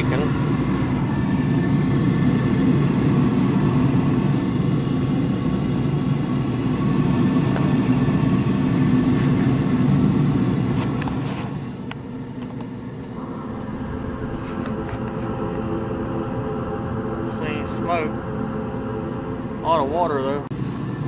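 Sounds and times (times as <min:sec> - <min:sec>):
oil furnace burner humming: 0:00.0 - 0:21.0.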